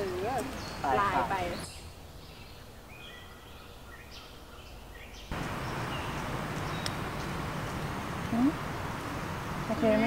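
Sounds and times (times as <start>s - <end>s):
small birds chirping: 0.0s - 10.0s
steady outdoor hiss: 0.0s - 10.0s.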